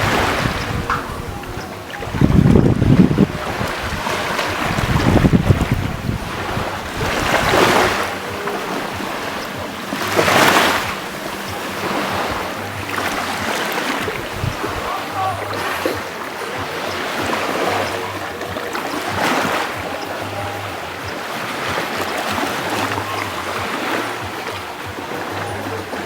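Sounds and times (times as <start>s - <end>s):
ocean waves washing ashore: 0.0s - 26.0s.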